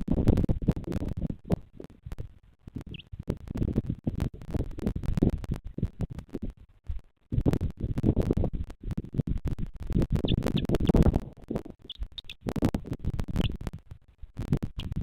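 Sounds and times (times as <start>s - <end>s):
rumbling and scratching on microphone: 0.0s - 15.0s.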